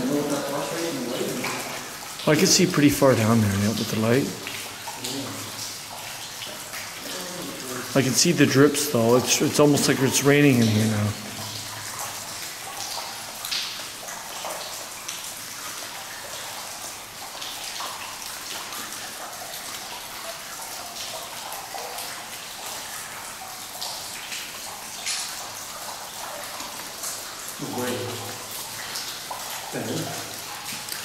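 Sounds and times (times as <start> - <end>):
drops splashing: 0.0 - 31.0
water dripping: 0.0 - 31.0.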